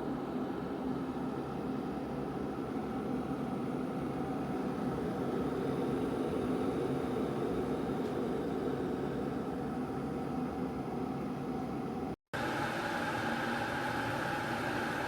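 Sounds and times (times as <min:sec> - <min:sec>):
electric kettle heating water: 0:00.0 - 0:15.0.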